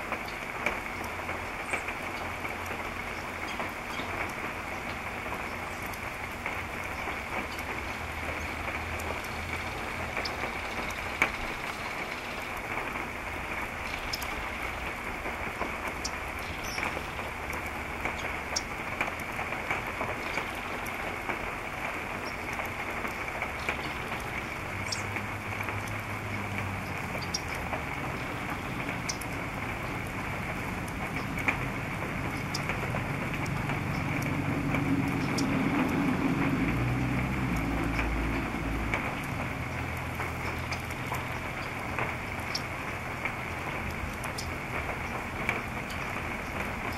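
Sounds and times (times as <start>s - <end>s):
raindrops ticking close by: 0.0s - 46.9s
steady rain: 0.0s - 46.9s.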